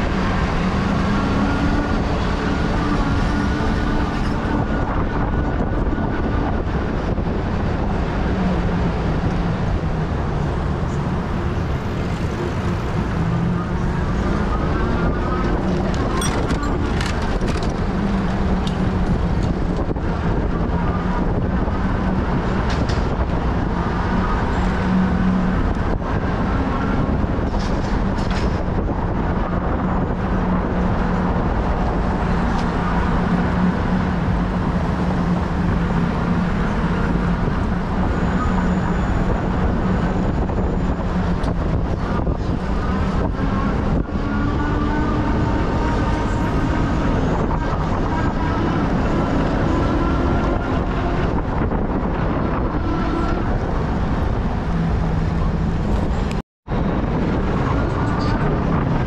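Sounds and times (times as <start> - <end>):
road and vehicle noise: 0.0 - 59.0.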